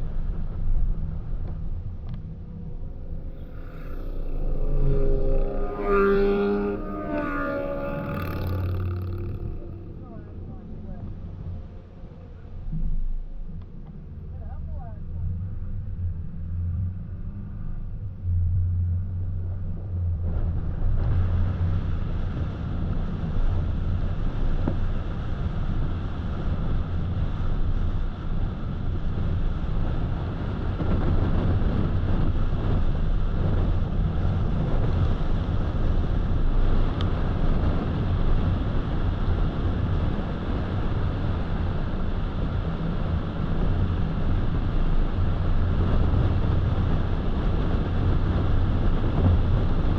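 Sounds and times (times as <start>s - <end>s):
car engine and tyre hum: 0.0s - 49.9s.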